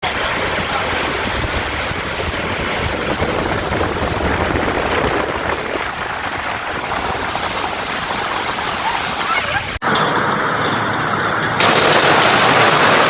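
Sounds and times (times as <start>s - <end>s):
wind gusting on microphone: 0.0s - 10.5s
pouring rain roar: 0.0s - 13.0s.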